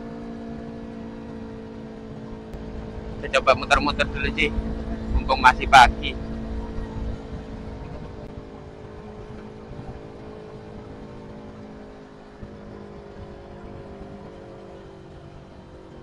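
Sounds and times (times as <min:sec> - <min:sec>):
low rumble of road noise: 0:00.0 - 0:16.0
motorcycle engine running: 0:00.0 - 0:16.0.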